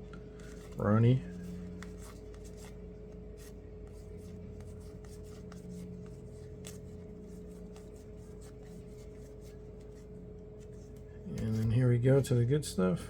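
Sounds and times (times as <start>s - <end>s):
steady low hum: 0.0s - 13.0s
cards sliding and flipping: 0.3s - 11.7s.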